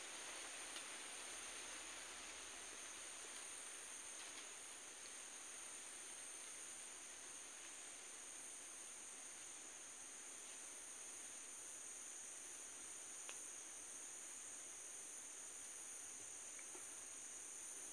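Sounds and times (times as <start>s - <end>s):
soft outdoor hiss: 0.0s - 17.9s.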